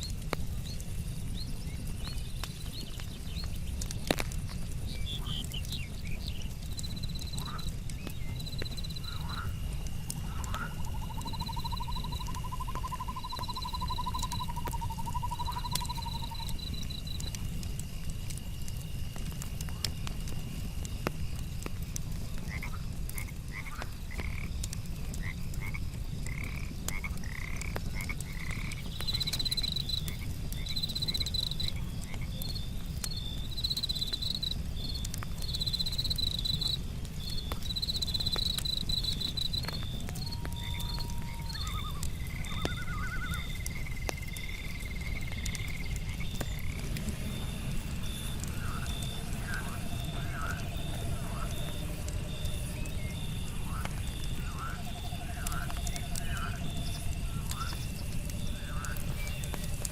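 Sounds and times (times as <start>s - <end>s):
campfire crackling: 0.0s - 59.9s
insects chirping: 0.0s - 59.9s
frogs calling: 4.9s - 17.4s, 22.4s - 59.9s
high insect tone: 4.9s - 19.2s, 25.2s - 59.9s.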